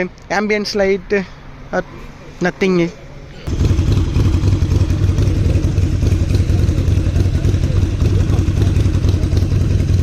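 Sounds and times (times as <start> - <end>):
motorcycle engine rumbling: 1.8 - 10.0.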